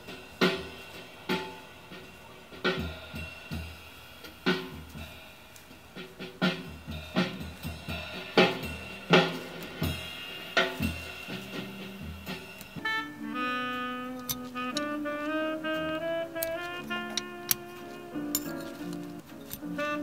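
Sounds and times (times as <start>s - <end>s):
jazz drum kit: 0.0s - 20.0s.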